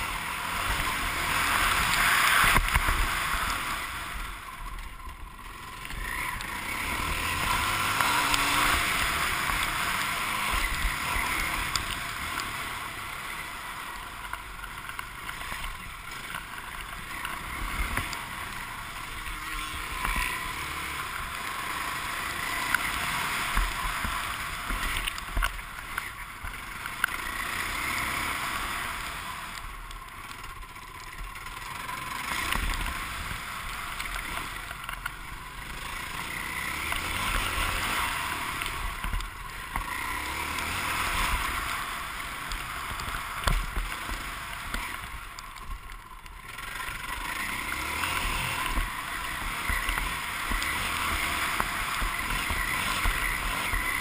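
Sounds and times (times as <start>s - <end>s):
dirt bike engine revving: 0.0s - 4.6s, 5.3s - 14.3s, 15.2s - 29.6s, 30.7s - 45.4s, 46.4s - 54.0s.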